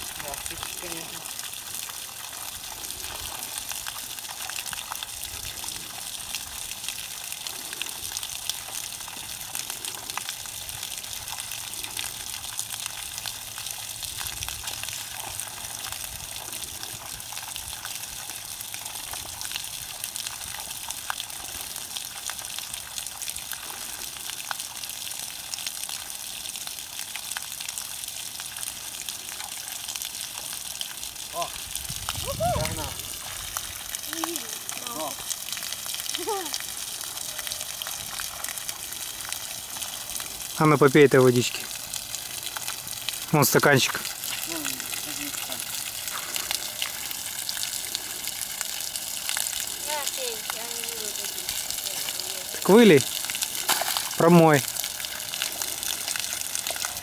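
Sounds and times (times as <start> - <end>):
water gushing from a pipe: 0.0 - 57.0
water splashing on ground: 0.0 - 57.0.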